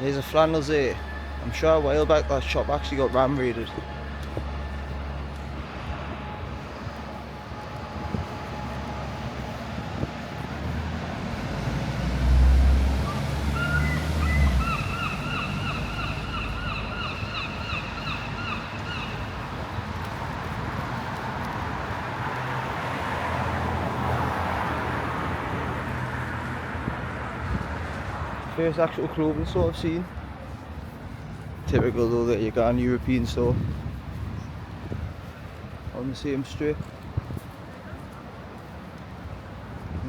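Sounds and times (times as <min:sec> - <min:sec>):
passing traffic: 0:00.0 - 0:40.0
wind buffeting microphone: 0:03.7 - 0:40.0.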